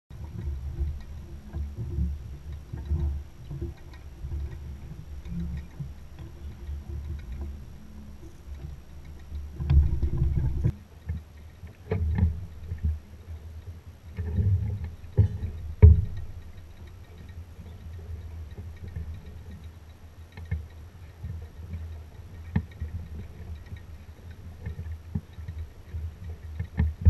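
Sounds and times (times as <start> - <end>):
water lapping against hull: 0.1 - 27.0.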